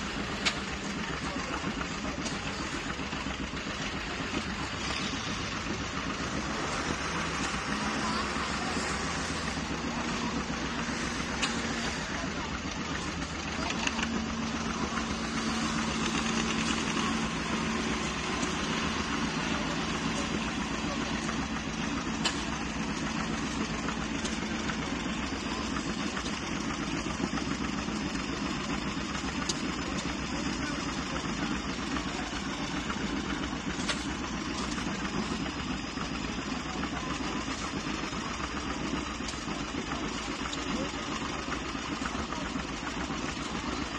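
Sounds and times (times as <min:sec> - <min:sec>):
tractor engines idling: 0:00.0 - 0:43.9.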